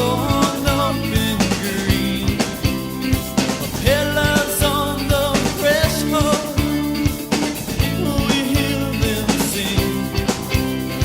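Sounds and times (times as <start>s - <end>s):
drum beat: 0.0s - 11.0s
rock band playing: 0.0s - 11.0s.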